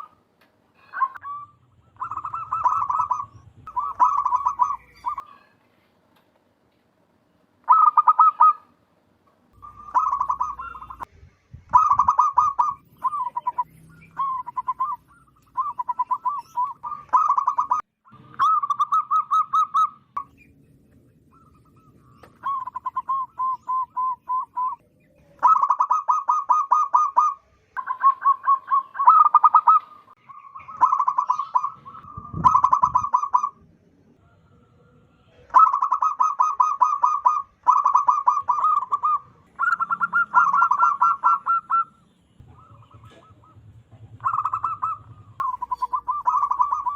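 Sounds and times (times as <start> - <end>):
dove cooing: 0.8 - 5.5, 7.7 - 8.7, 9.6 - 11.1, 11.7 - 20.0, 21.3 - 33.6, 34.2 - 46.9.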